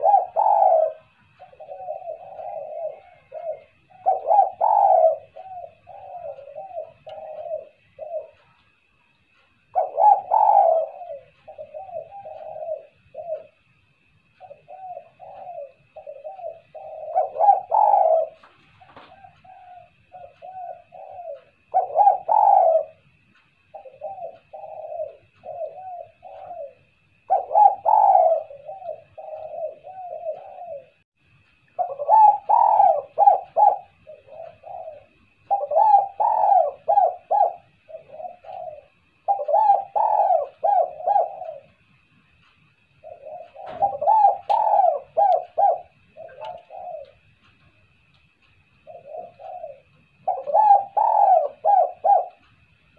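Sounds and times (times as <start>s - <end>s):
dove cooing: 0.0s - 52.9s
faint steady high tone: 0.0s - 52.9s.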